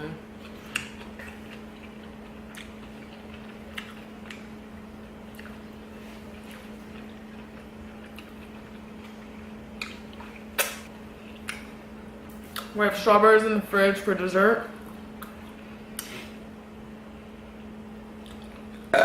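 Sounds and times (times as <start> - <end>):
low hum: 0.0 - 19.0
person chewing food: 0.3 - 12.7, 14.8 - 16.4, 17.5 - 19.0.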